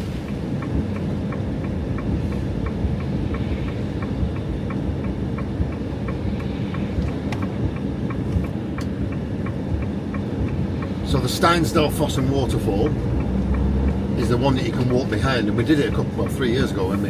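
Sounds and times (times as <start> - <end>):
light regular ticking: 0.0 - 17.0
van driving on wet road: 0.0 - 17.0.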